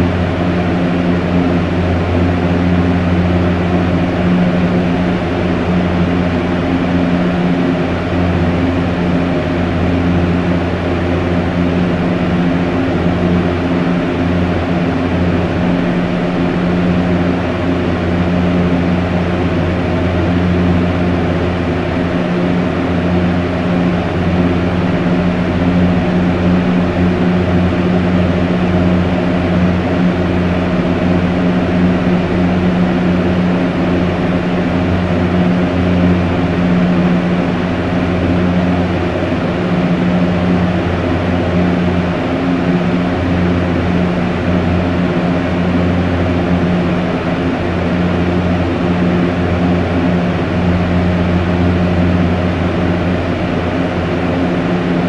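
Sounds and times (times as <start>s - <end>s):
fan air rushing: 0.0s - 55.0s
fan motor hum: 0.0s - 55.0s.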